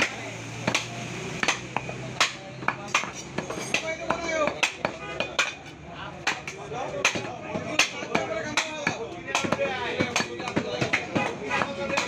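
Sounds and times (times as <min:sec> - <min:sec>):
knife chopping meat on wooden block: 0:00.0 - 0:05.6, 0:06.2 - 0:12.0.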